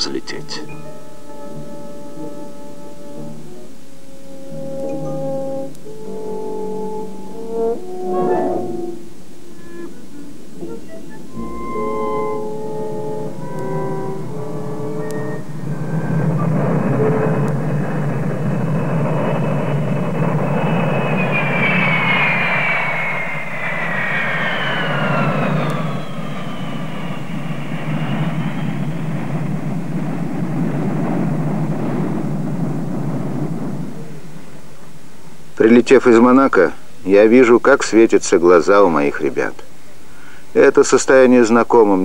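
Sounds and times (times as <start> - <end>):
high engine whine: 0.0 - 35.6
jet engines roaring: 0.0 - 35.6.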